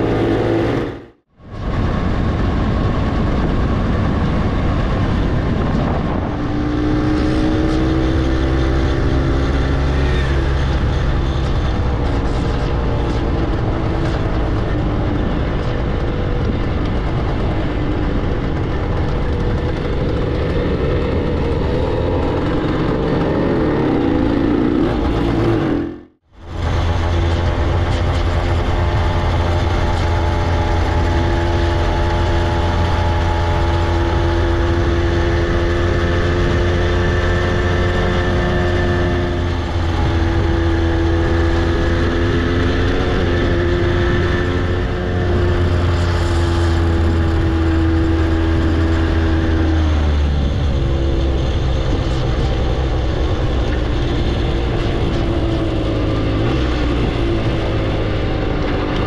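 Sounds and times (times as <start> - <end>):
two-stroke motorcycle engine running: 2.1 - 59.0.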